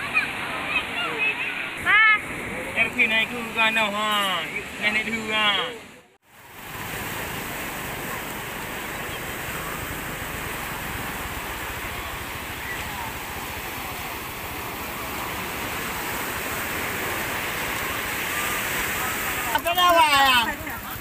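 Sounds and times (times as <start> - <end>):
sea surf: 0.0 - 21.0.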